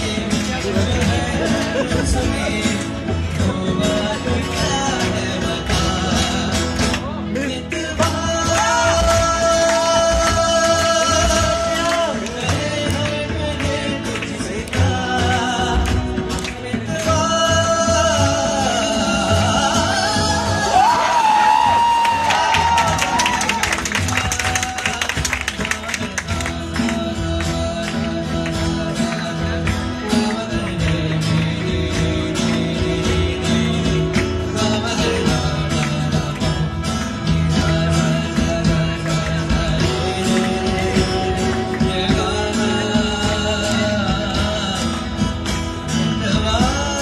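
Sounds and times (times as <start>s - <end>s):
acoustic guitars: 0.0s - 47.0s
hand drums: 0.0s - 47.0s
keyboard: 0.0s - 47.0s
person singing: 0.0s - 47.0s.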